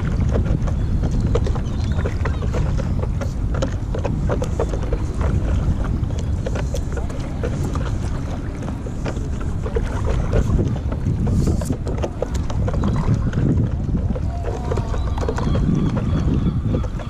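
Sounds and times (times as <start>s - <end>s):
water lapping against paddle board: 0.0s - 17.0s
wind buffeting microphone: 0.0s - 17.0s.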